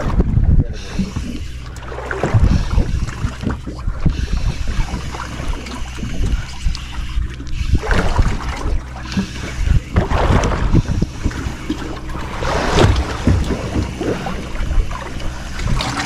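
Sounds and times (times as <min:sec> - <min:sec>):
boat engine running: 0:00.0 - 0:16.0
water splashes: 0:00.0 - 0:16.0
wind buffeting microphone: 0:00.0 - 0:16.0.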